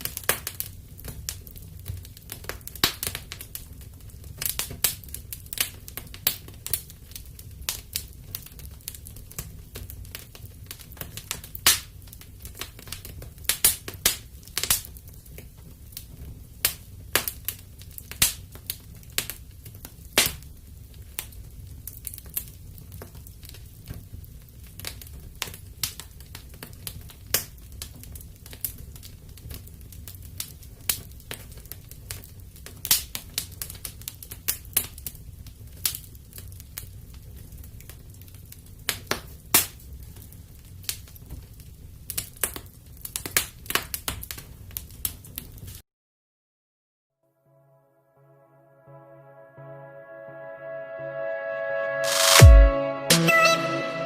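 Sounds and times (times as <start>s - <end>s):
wood fire crackling and popping: 0.0s - 45.8s.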